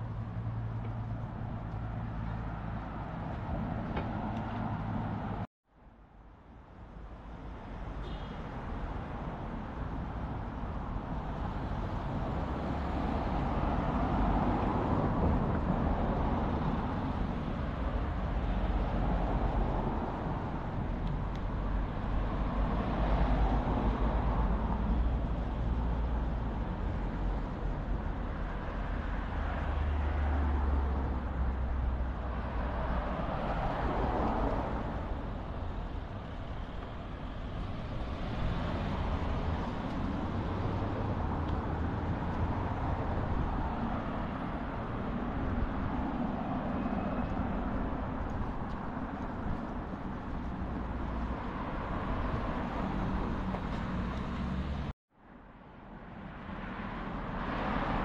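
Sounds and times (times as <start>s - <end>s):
cars passing: 0.0s - 5.5s, 6.8s - 58.0s
low traffic rumble: 0.0s - 58.0s.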